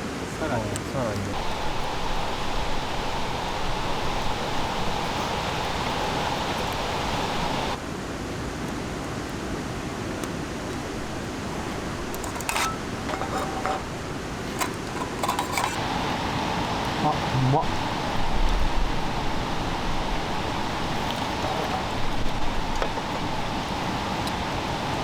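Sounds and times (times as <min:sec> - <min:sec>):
steady hissing noise: 0:00.0 - 0:25.0.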